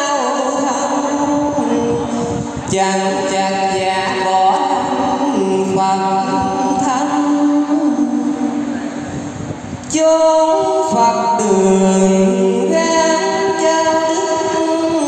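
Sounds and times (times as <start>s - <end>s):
man chanting over microphone: 0.0s - 15.0s.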